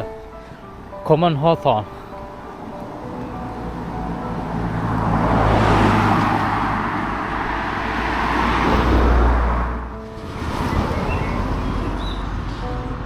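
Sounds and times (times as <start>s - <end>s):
traffic passing close by: 0.0s - 13.0s.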